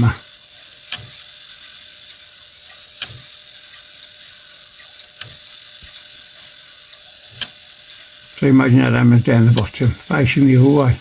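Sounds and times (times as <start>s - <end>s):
clock mechanism clicking: 0.0s - 11.0s.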